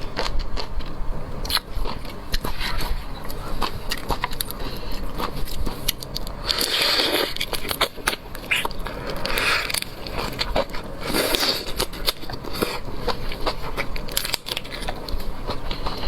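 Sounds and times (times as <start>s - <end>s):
chewing and crunching: 0.0s - 16.0s.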